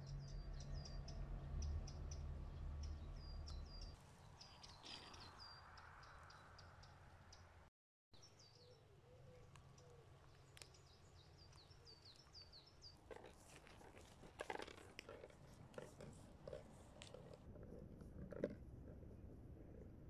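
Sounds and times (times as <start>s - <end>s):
songbird chirping: 0.0s - 17.4s.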